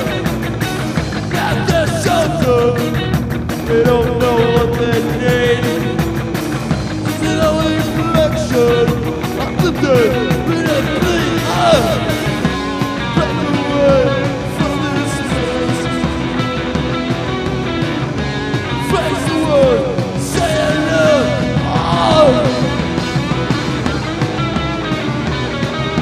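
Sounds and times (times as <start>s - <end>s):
live rock band playing: 0.0s - 26.0s
steady drum beat: 0.0s - 26.0s.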